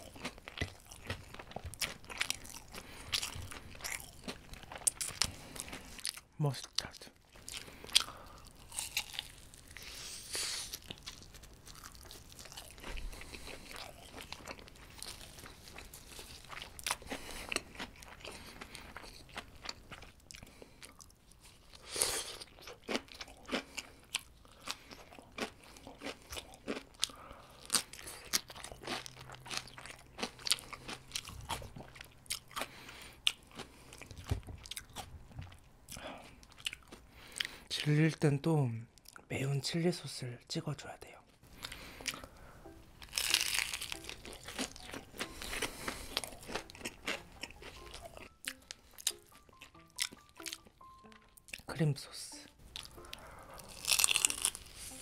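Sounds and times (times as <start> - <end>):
crunching crispy fried chicken: 0.0 - 35.0, 43.0 - 51.3, 52.8 - 55.0.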